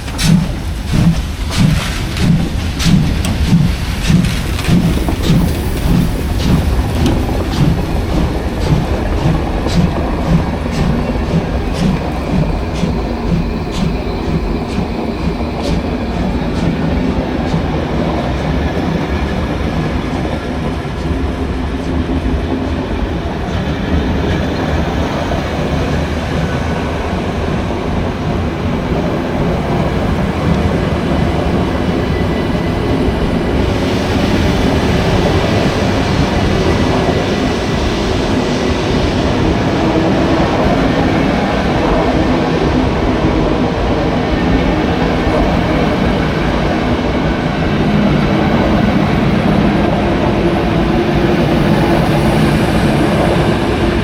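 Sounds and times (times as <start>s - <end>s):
rail clicks: 0.0s - 54.0s
train rumbling on track: 0.0s - 54.0s.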